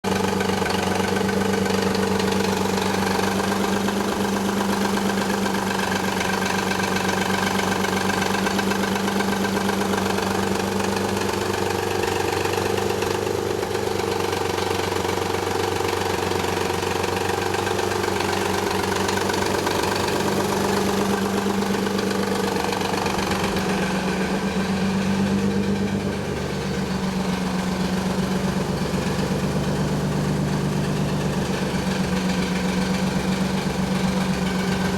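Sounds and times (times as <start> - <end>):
car engine idling: 0.0 - 34.9
noisy idler pulleys: 0.0 - 34.9.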